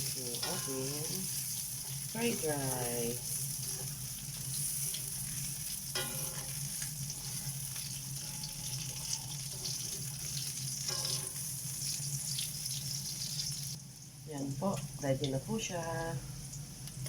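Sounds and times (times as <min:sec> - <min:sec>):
hot dogs sizzling in a pan: 0:00.0 - 0:17.0.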